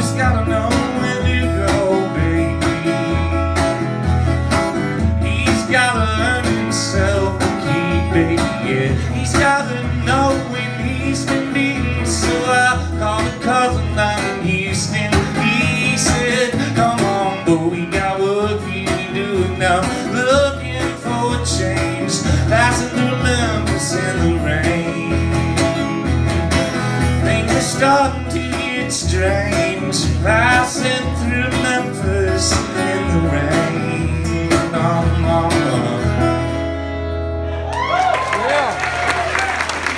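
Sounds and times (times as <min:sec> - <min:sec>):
man singing: 0:00.0 - 0:03.4, 0:05.0 - 0:26.1, 0:26.8 - 0:36.6
acoustic guitar: 0:00.0 - 0:39.9.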